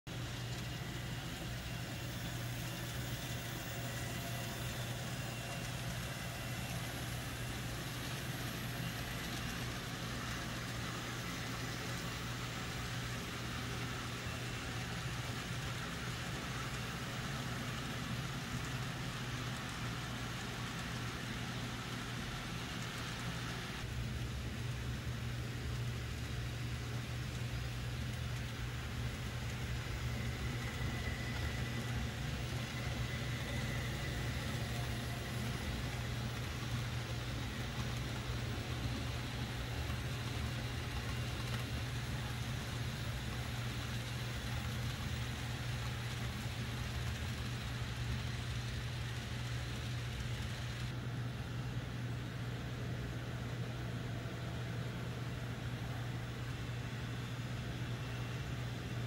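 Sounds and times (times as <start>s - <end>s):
low hum and hiss: 0.1s - 59.0s
model train motor whine: 0.2s - 24.2s, 24.8s - 50.9s.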